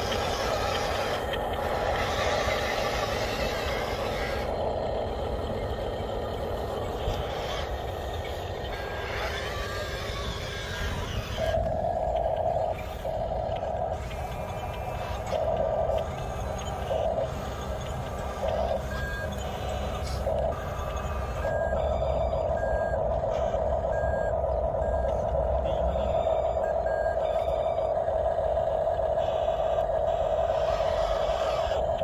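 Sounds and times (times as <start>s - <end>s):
long electronic beeps: 0.0s - 32.0s
toy truck motor and gears: 0.0s - 32.0s.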